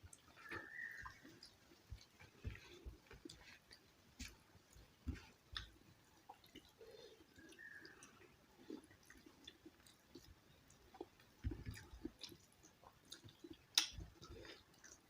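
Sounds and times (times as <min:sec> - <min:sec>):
wet smacks and clicks: 0:00.1 - 0:06.8, 0:07.4 - 0:15.0
person chewing: 0:00.1 - 0:15.0.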